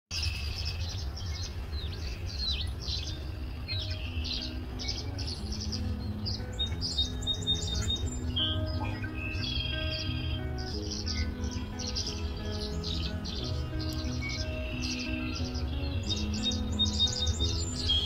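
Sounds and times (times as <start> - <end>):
faint background music: 0.2 - 18.0
swallows chattering: 0.2 - 18.0.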